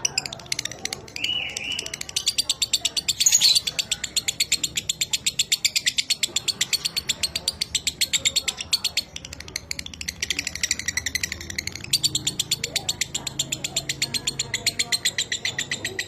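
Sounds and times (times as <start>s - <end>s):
bird chattering trill: 0.0s - 16.0s.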